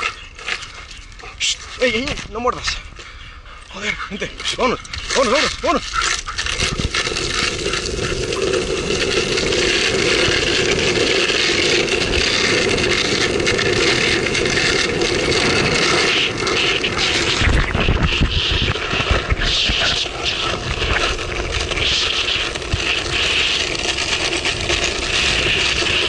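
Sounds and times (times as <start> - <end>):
longboard wheels rolling on pavement: 0.0 - 26.0.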